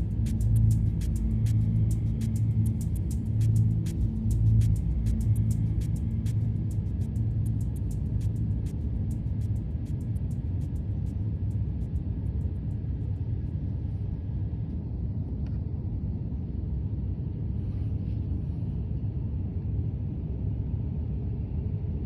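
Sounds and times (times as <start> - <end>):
low rumble of vehicle noise: 0.0 - 22.0.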